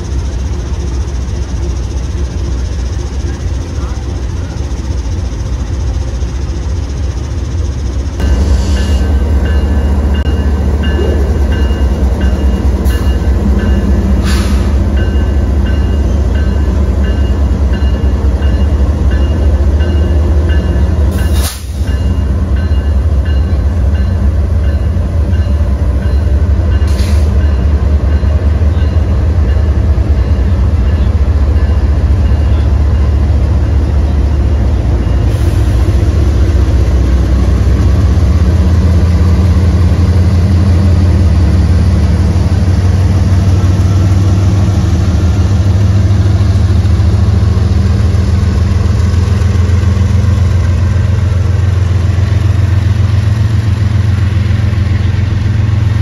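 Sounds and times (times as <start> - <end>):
train rumbling by: 0.0 - 56.0.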